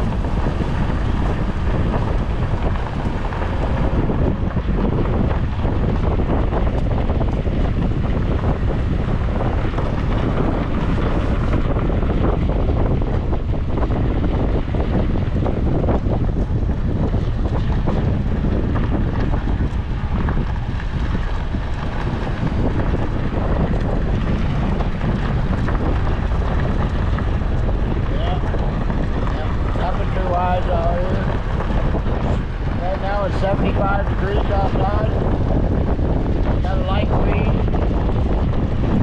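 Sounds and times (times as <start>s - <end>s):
vehicle driving: 0.0s - 39.0s
wind buffeting microphone: 0.0s - 39.0s.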